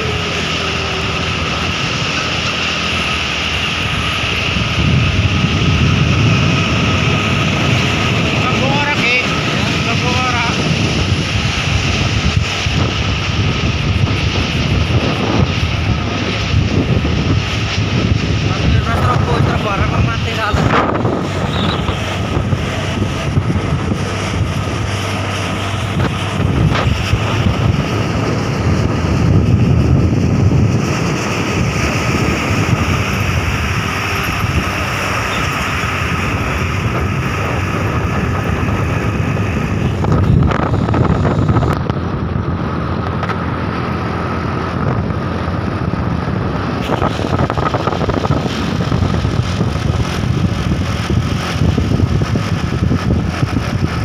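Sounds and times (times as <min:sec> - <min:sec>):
road noise: 0:00.0 - 0:54.0
truck engine running: 0:00.0 - 0:54.0
wind buffeting microphone: 0:00.0 - 0:54.0.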